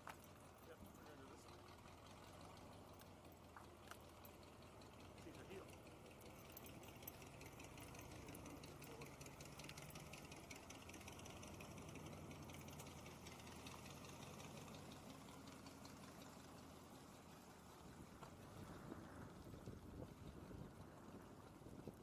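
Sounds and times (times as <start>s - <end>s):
distant truck engine hum: 0.0s - 22.0s.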